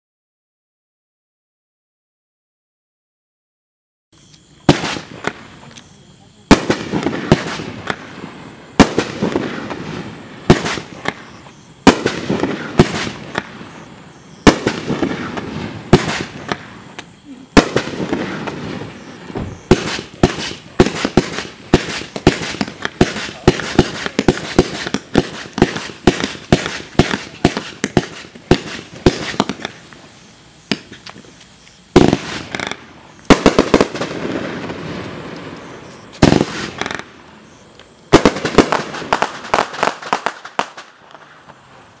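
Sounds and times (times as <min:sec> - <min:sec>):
fireworks cake firing shots: 0:04.6 - 0:29.9, 0:30.6 - 0:37.2, 0:38.1 - 0:41.6.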